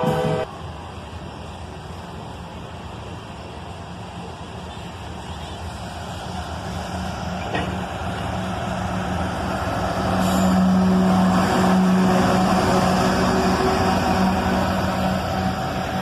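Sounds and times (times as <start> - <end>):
diesel locomotive drone: 0.0 - 16.0.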